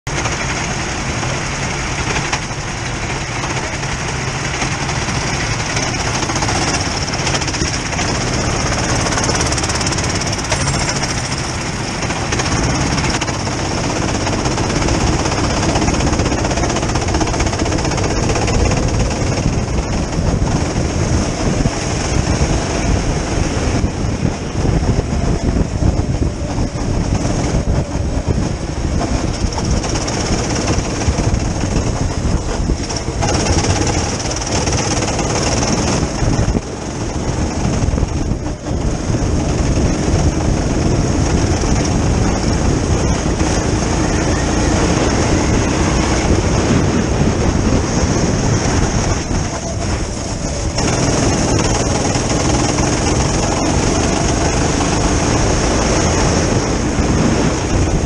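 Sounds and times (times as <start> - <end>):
go-kart engines running: 0.1 - 58.0.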